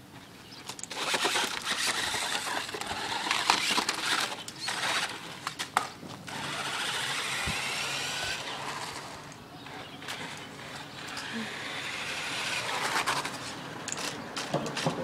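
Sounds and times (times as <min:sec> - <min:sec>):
sharp clicks and crunches: 0:00.6 - 0:11.4, 0:12.4 - 0:15.0
toy car electric motor whirring: 0:00.8 - 0:09.4, 0:10.0 - 0:14.2.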